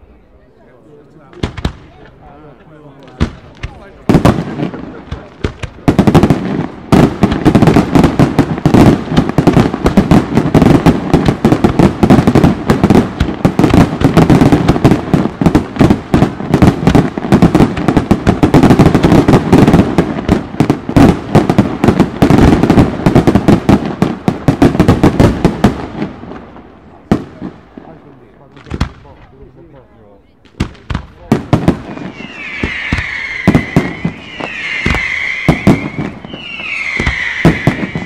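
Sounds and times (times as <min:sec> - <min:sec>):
fireworks bangs crackling: 0:01.2 - 0:29.4, 0:30.4 - 0:38.0.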